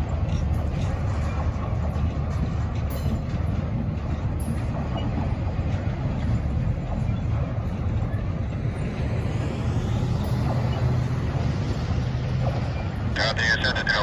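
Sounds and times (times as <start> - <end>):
freight train cars rolling: 0.0 - 14.0.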